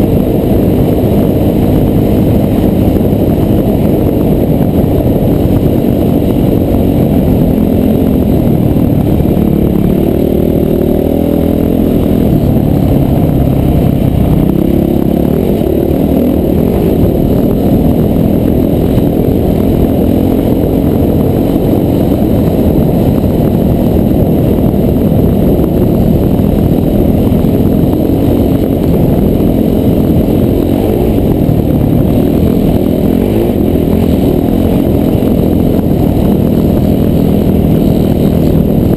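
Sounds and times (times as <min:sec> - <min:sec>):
dense low rumble: 0:00.0 - 0:38.9
dirt bike engine: 0:00.0 - 0:38.9.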